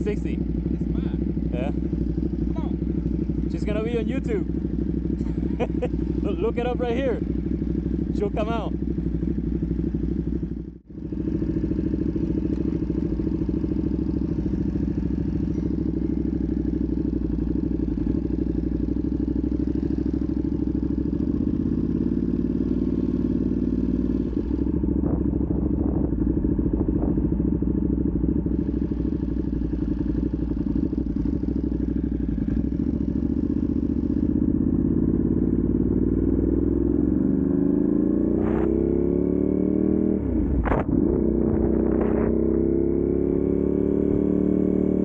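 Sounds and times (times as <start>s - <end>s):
motorcycle engine riding along: 0.0s - 45.0s.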